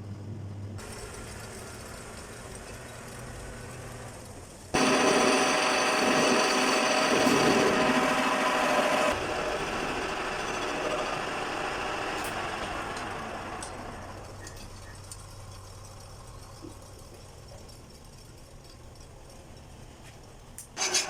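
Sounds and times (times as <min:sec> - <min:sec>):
lathe running and coasting down: 0:00.8 - 0:21.0.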